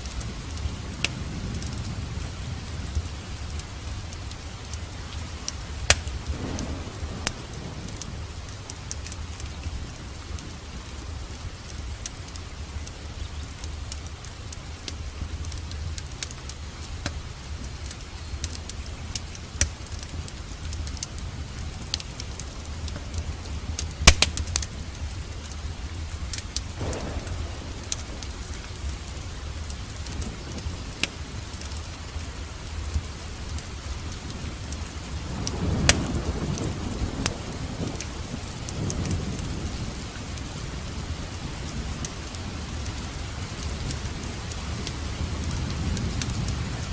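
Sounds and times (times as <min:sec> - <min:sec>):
low thunder rumbles: 0:00.0 - 0:16.7, 0:17.4 - 0:46.9
wood fire crackling and popping: 0:00.0 - 0:40.5
steady rain: 0:00.0 - 0:46.9.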